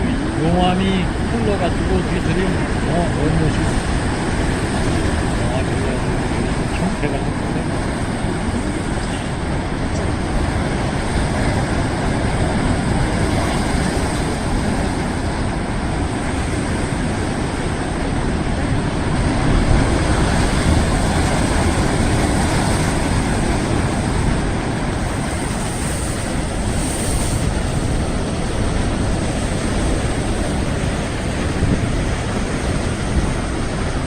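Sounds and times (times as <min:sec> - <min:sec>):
sea waves breaking on rocks: 0:00.1 - 0:34.0.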